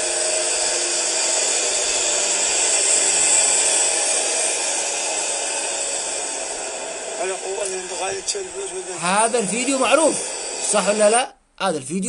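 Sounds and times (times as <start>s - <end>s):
loud rushing hiss: 0.0s - 11.3s.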